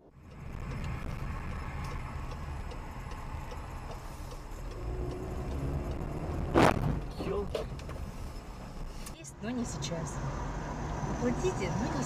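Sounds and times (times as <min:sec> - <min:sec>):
turn signal ticking: 0:00.0 - 0:10.1
engine and road noise: 0:00.0 - 0:12.0.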